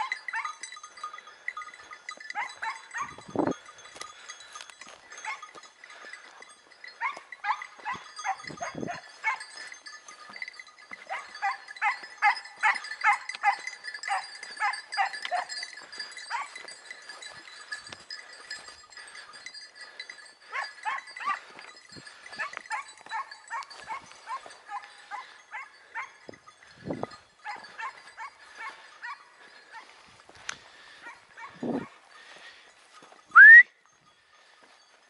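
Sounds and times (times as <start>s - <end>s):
hounds baying in high yelps: 0.0s - 32.7s
faint steady ringing: 0.0s - 35.0s.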